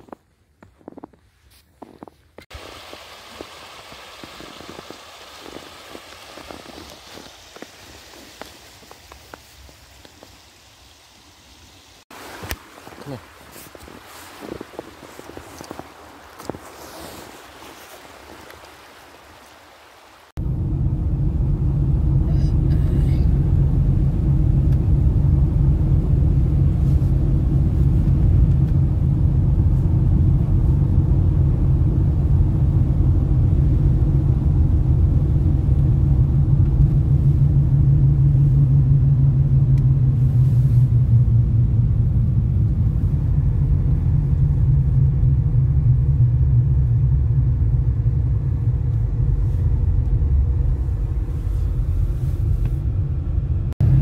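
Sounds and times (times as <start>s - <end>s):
car driving on wet roads: 2.5s - 54.0s.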